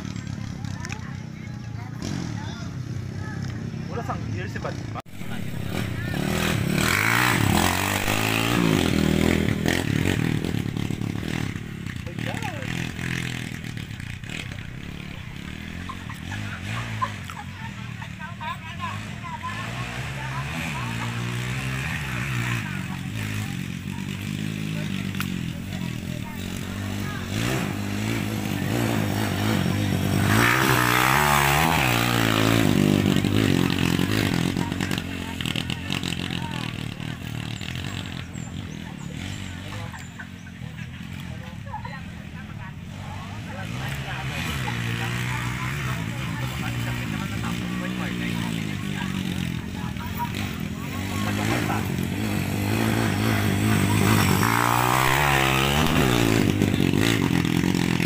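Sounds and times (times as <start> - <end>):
dirt bike engine revving: 1.9 - 58.0.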